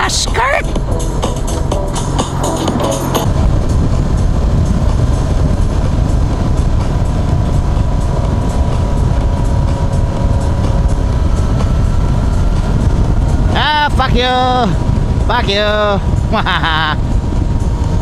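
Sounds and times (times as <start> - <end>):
motorcycle engine running: 0.0 - 18.0
wind rumble on microphone: 0.0 - 18.0.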